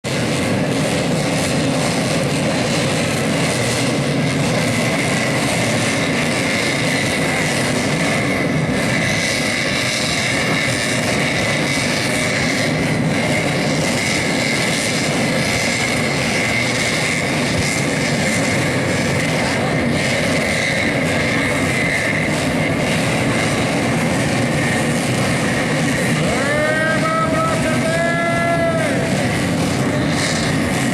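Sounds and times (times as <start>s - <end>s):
motorcycle engines droning: 0.1s - 30.9s.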